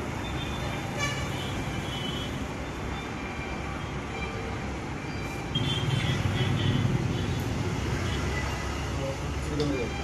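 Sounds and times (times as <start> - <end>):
road traffic engine rumble: 0.0 - 10.0.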